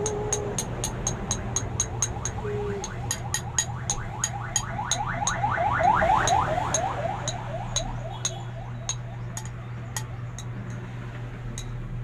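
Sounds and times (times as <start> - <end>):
high ticks: 0.0 - 10.8.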